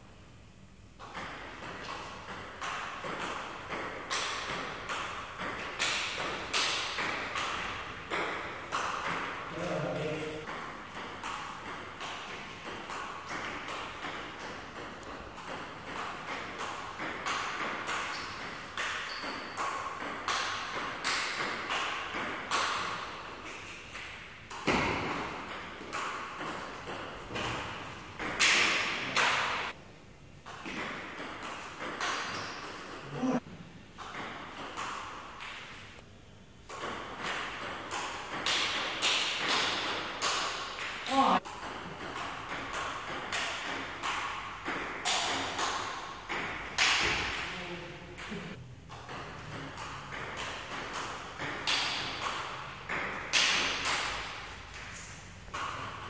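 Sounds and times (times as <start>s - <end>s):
ball bouncing on table: 1.0s - 23.1s, 23.9s - 29.8s, 30.4s - 35.7s, 36.7s - 47.6s, 48.2s - 56.0s
ping pong ball hitting paddles: 1.0s - 29.8s, 30.4s - 33.4s, 34.0s - 35.8s, 36.6s - 56.0s.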